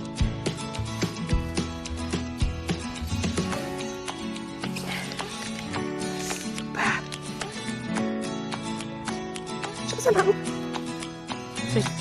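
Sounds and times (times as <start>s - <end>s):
upbeat music with plucked guitar: 0.0s - 12.0s.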